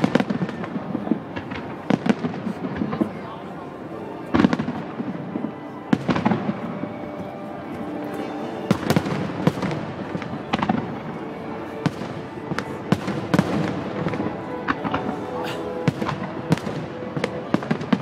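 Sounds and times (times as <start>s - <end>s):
fireworks bangs: 0.0s - 3.3s, 4.2s - 7.3s, 8.7s - 18.0s
fireworks crackle: 0.0s - 18.0s.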